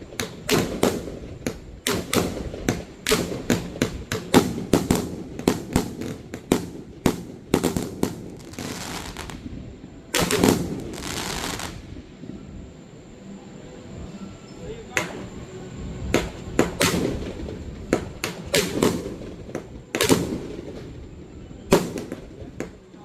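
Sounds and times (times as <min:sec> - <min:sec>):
firework hiss: 0:00.0 - 0:12.2, 0:16.1 - 0:22.8
fireworks bursting: 0:00.0 - 0:12.4, 0:16.0 - 0:23.0.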